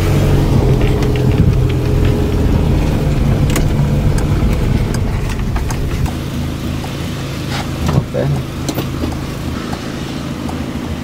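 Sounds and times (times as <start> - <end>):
tyres rumbling over cobblestones: 0.0 - 10.0
car engine running: 0.0 - 11.0.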